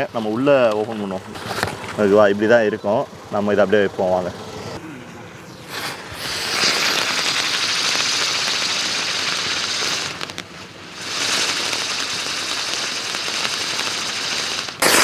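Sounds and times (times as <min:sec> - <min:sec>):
firework spinner hissing and crackling: 0:00.0 - 0:15.0.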